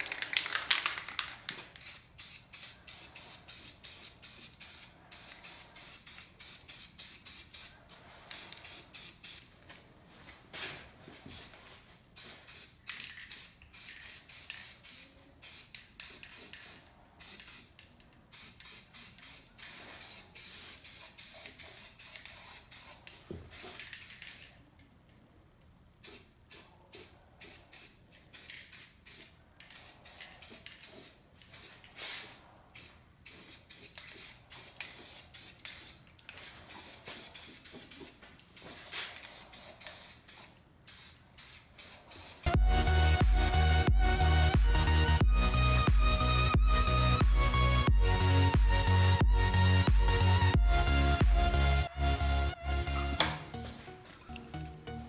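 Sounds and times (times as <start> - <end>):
spray paint can hissing: 0.0 - 9.5, 11.3 - 11.6, 12.2 - 24.6, 26.0 - 51.0.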